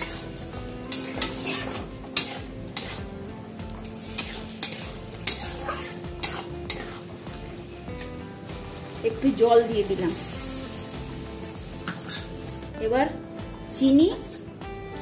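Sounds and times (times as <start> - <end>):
wok sizzling: 0.0 - 15.0.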